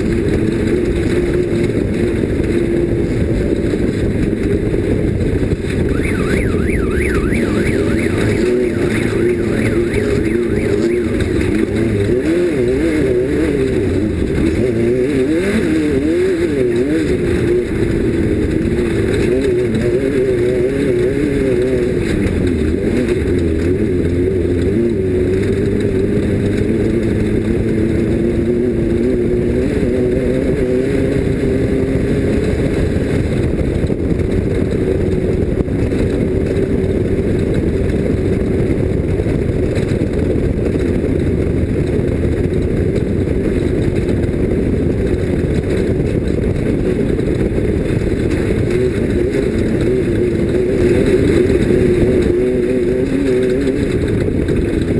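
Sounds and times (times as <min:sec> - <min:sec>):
racing engine running hard: 0:00.0 - 0:54.9
rush of noise: 0:00.0 - 0:54.9.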